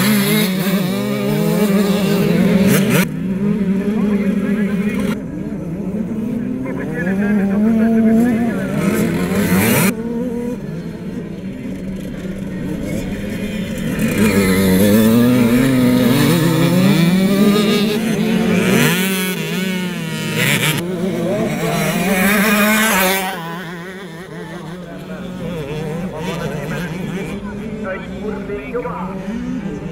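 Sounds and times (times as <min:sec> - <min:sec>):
motocross bikes racing: 0:00.0 - 0:29.9.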